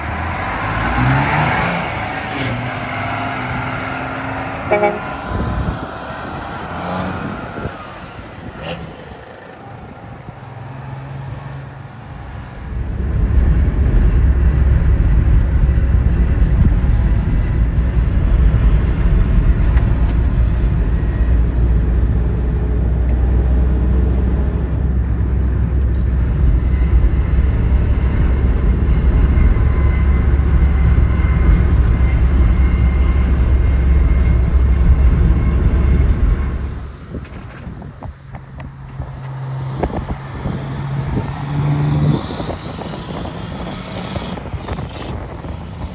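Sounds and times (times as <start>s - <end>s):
diesel truck engine rumbling: 0.0s - 45.4s.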